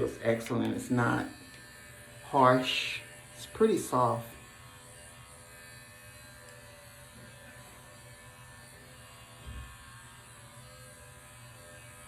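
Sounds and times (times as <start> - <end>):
faint electric buzz: 0.0 - 12.0.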